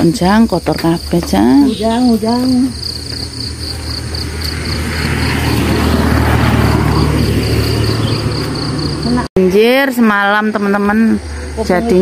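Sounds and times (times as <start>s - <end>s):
crickets chirping: 0.0s - 12.0s
vehicle passing: 0.0s - 12.0s.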